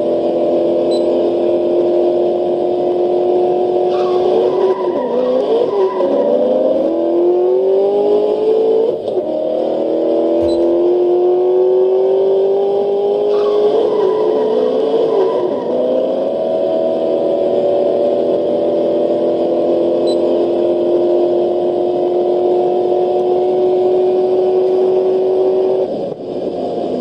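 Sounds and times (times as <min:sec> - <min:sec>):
car engine at high revs: 0:00.0 - 0:27.0.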